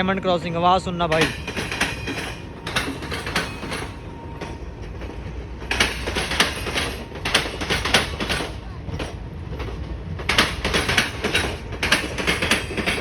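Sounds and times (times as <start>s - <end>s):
low rumble of moving train: 0.0s - 13.0s
train wheels clacking over rails: 0.0s - 13.0s.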